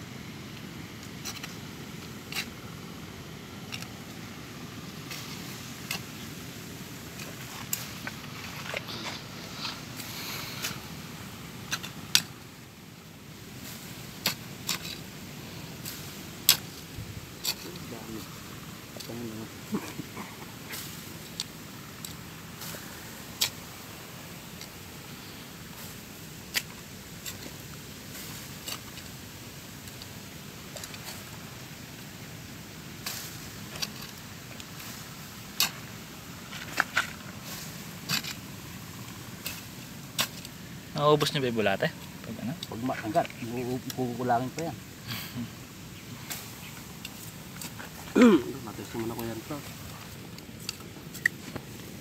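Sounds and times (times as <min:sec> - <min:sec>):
hands digging through soil: 0:01.0 - 0:12.7, 0:13.3 - 0:52.0.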